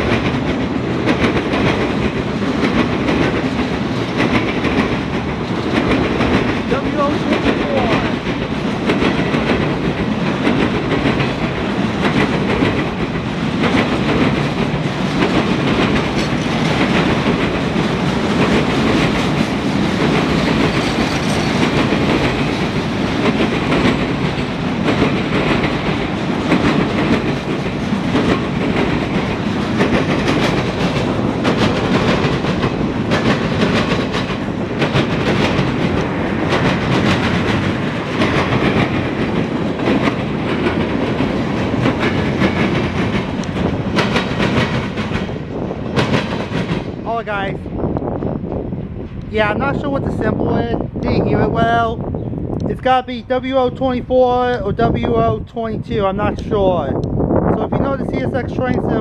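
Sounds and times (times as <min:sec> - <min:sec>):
train cars rumbling past: 0:00.0 - 0:59.0.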